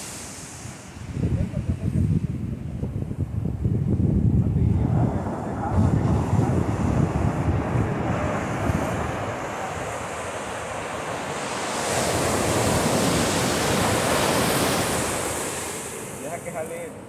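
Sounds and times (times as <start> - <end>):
ocean waves on beach: 0.0 - 3.4, 4.4 - 17.0
wind on microphone: 0.0 - 16.3.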